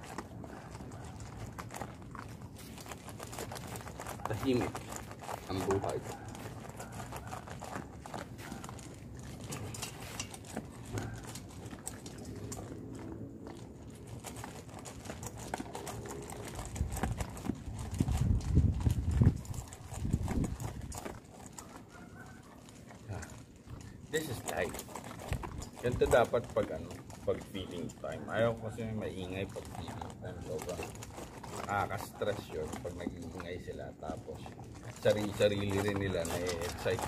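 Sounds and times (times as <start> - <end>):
dogs chewing dry kibble: 0.0 - 37.0.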